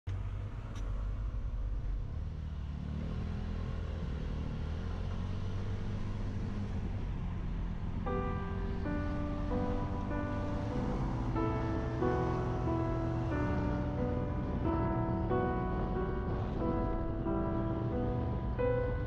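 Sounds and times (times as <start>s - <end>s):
motorcycle engine accelerating: 0.2s - 19.0s
piano background music: 3.2s - 19.0s.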